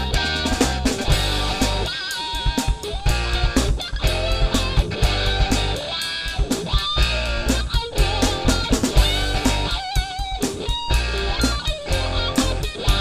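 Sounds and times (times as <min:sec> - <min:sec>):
instrumental rock music: 0:00.0 - 0:13.0.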